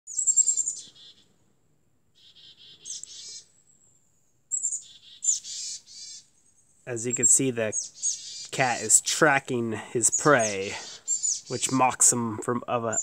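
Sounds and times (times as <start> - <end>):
songbirds chirping: 0.1 - 13.0.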